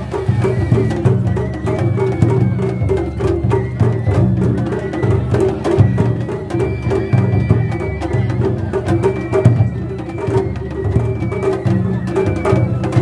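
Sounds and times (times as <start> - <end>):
taiko drums beating: 0.0 - 13.0.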